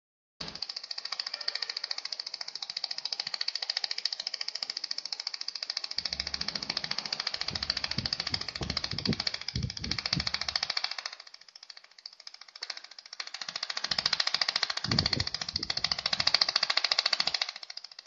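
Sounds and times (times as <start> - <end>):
laser welder ticking: 0.4 - 18.0.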